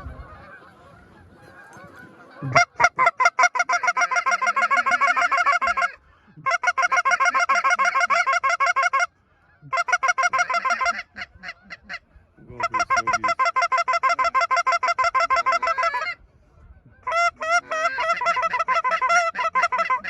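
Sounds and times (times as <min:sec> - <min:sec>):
goose honking: 0:00.0 - 0:20.0.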